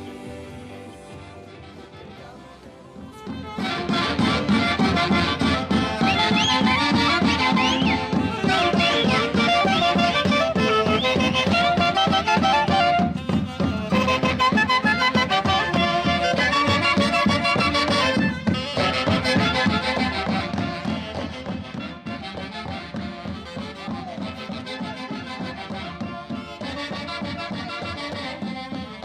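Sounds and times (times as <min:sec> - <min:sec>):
marching brass band playing: 0:00.0 - 0:29.0.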